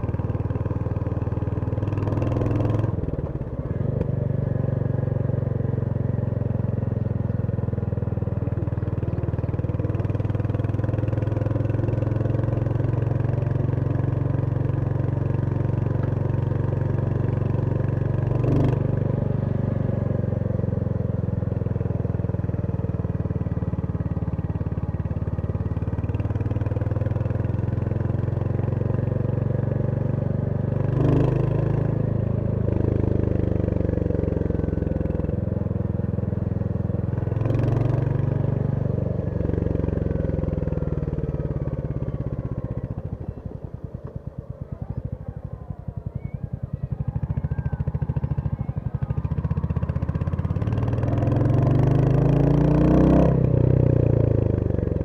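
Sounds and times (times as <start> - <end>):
single-cylinder motorcycle engine: 0.0 - 55.0.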